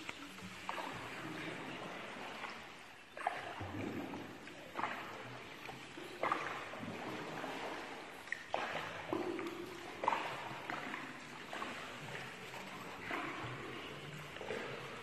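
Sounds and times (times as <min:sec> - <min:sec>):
paddle splashes: 0:00.0 - 0:15.0
water sloshing under boat: 0:00.0 - 0:15.0.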